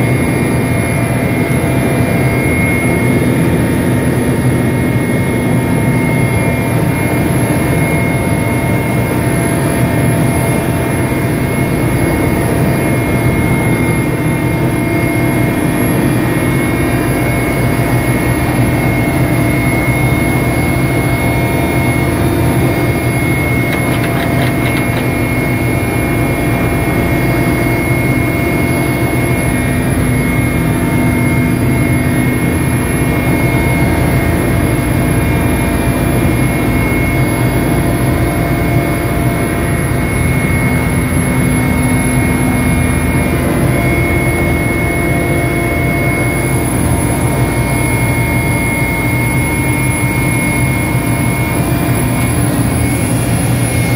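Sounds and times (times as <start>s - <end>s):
helicopter engine rumble: 0.0s - 53.9s
high whine: 0.0s - 53.9s.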